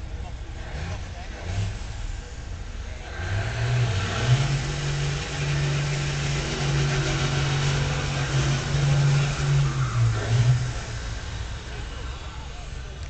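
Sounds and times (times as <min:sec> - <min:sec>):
truck engines running hard: 0:00.0 - 0:13.0.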